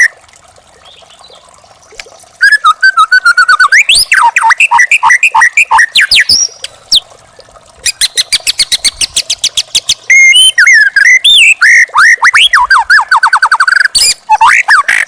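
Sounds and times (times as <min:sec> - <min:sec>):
songbird whistling song: 0:02.4 - 0:15.0.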